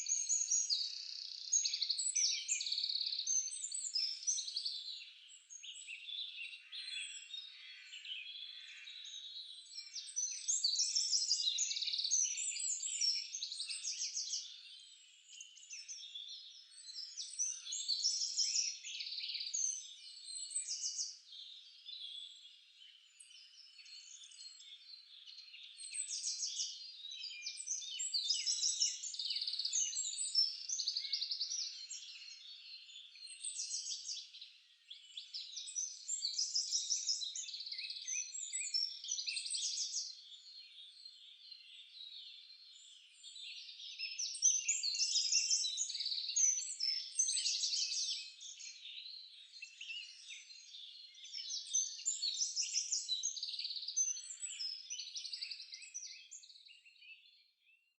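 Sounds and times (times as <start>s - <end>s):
songbirds singing: 0.0s - 57.9s.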